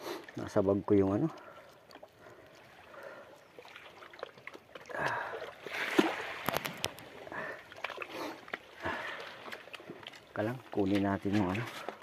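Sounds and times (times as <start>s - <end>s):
wet rustling and slapping of fish: 0.0s - 12.0s.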